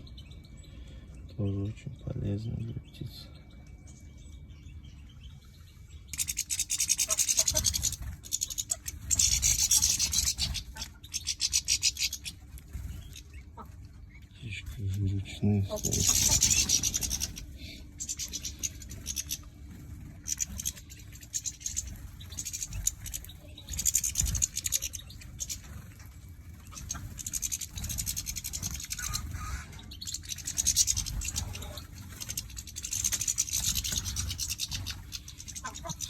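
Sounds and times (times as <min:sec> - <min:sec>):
birds scratching and pecking seed: 0:06.1 - 0:14.8, 0:15.7 - 0:36.0.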